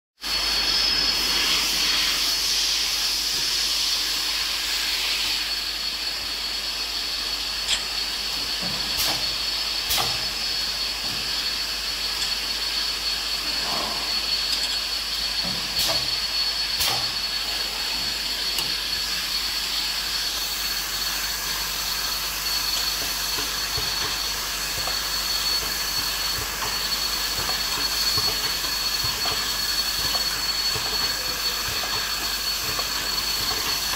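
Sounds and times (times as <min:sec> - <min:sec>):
filling machine hissing: 0:00.2 - 0:33.9
high-pitched machine whine: 0:00.2 - 0:33.9.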